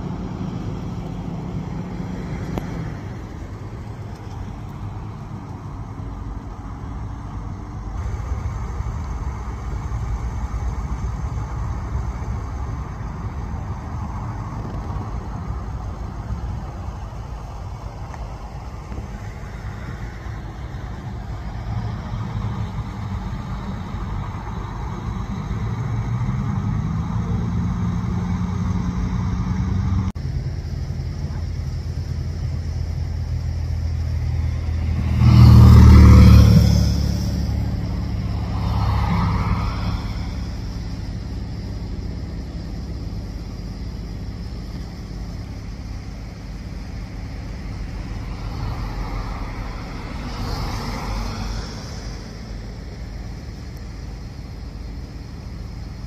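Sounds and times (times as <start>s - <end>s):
vehicle engines humming: 0.0s - 56.0s.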